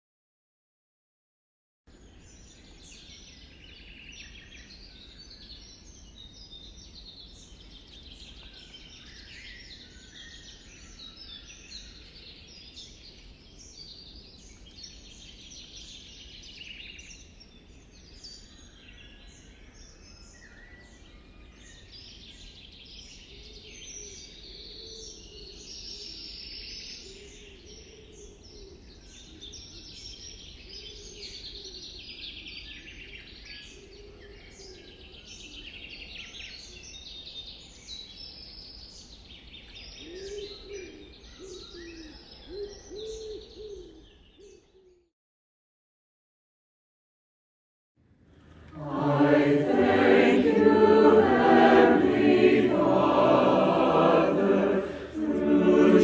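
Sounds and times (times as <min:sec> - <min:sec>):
songbirds chirping and singing: 0:01.9 - 0:45.1, 0:48.7 - 0:56.0.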